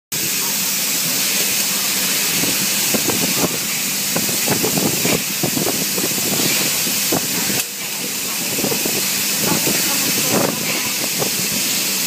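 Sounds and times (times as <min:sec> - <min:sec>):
welding hiss with crackling: 0:00.2 - 0:12.0.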